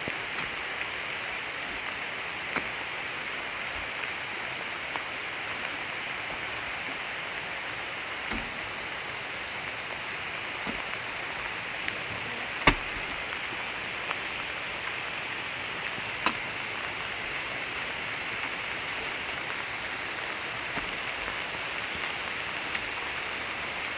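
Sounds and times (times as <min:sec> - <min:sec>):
rain hissing: 0:00.0 - 0:23.9.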